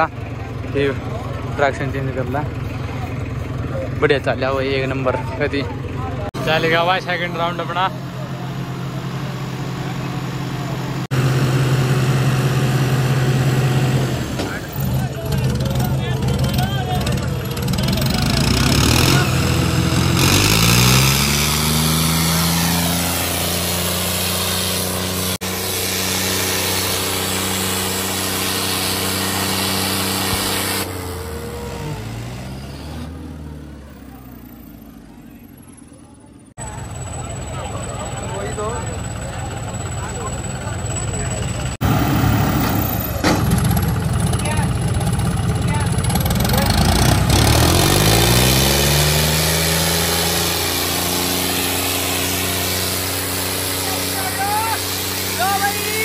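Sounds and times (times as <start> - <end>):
tractor diesel engines running hard: 0.0 - 56.0.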